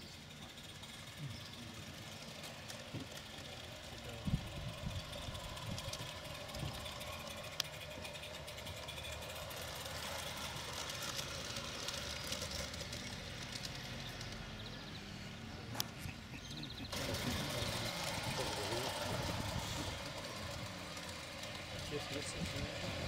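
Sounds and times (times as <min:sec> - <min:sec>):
model steam locomotive exhaust beats: 0:00.0 - 0:15.2, 0:16.2 - 0:23.0.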